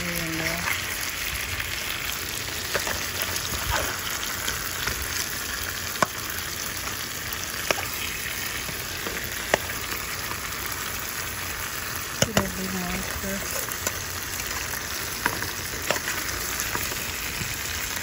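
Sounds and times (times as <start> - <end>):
fish sizzling in a pot: 0.0 - 18.0.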